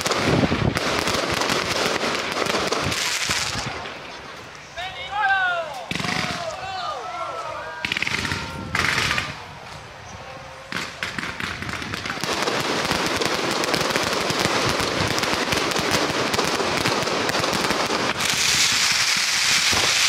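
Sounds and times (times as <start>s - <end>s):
firecrackers crackling: 0.0s - 6.8s, 7.7s - 20.0s.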